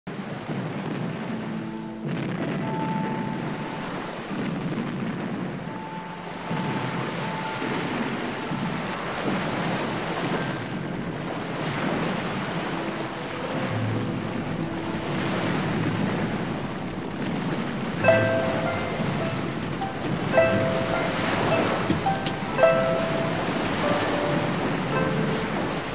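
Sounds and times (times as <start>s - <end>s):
sea waves washing: 0.1s - 25.9s
wind: 0.1s - 25.9s
music: 1.1s - 4.5s, 5.6s - 25.9s.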